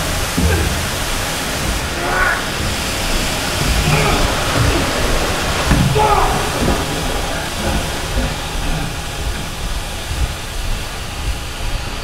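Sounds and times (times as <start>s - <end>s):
low thuds: 0.0s - 12.0s
water gushing across tiled floor: 0.0s - 12.0s.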